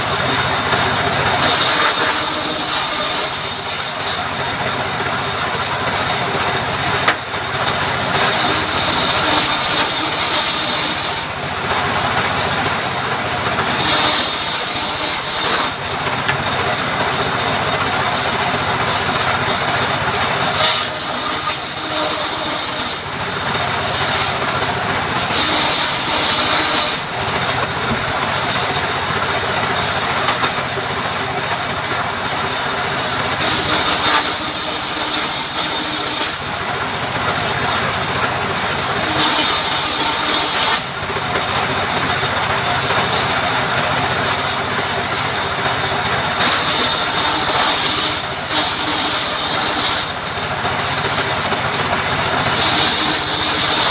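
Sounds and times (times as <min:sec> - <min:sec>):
power saw cutting wood: 0:00.0 - 0:53.9.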